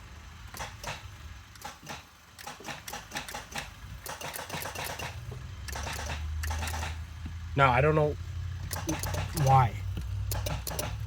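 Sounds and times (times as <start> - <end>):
rapid electrical clicking: 0.5 - 7.1, 8.6 - 11.0.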